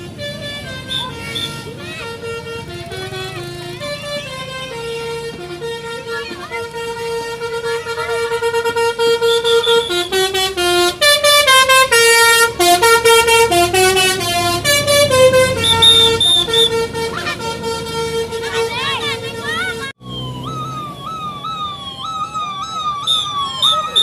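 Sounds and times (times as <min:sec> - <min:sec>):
musical air horn playing a tune: 0:00.0 - 0:20.0.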